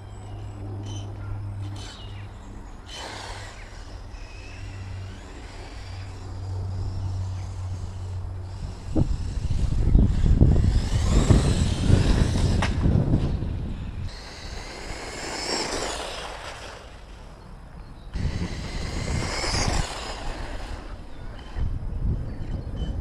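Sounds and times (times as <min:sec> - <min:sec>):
electric motor whining: 0:00.0 - 0:17.4, 0:18.1 - 0:21.8.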